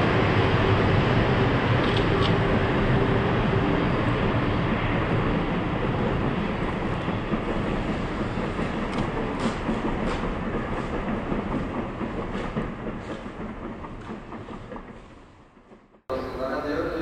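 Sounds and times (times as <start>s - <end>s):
train rumble and wheel noise: 0.0s - 17.0s.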